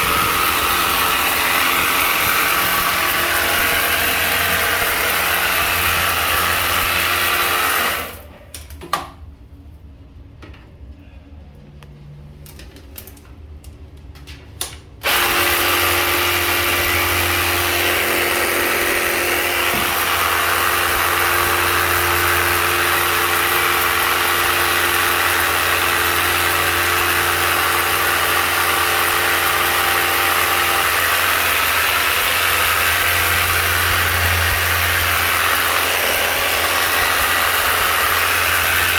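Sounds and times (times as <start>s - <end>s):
pressure washer running: 0.0s - 8.3s, 15.0s - 38.9s.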